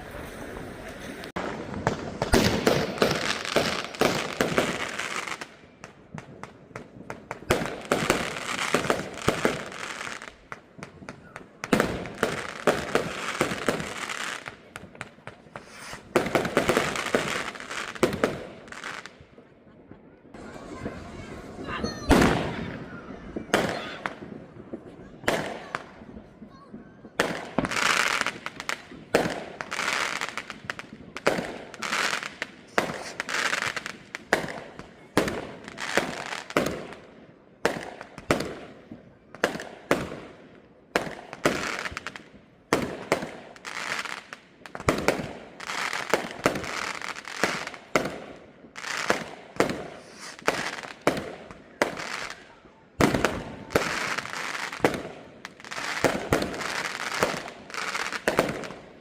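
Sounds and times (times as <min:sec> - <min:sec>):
fireworks bangs and crackle: 0:00.0 - 0:59.0.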